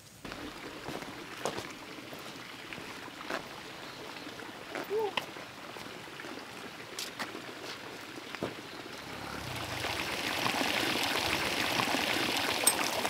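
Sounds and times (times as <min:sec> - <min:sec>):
water pouring into a pool: 0:00.2 - 0:13.0.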